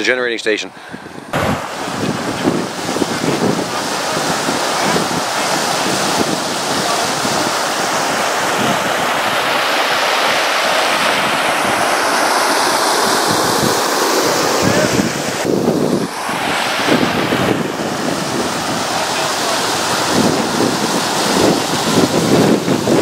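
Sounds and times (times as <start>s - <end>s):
wind buffeting microphone: 0.8s - 23.0s
water pouring over weir: 1.6s - 14.9s, 15.9s - 23.0s.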